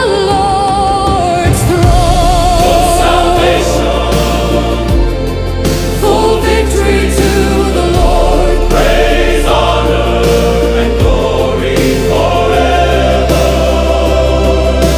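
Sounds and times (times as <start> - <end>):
choir singing sustained chords: 0.0 - 14.9.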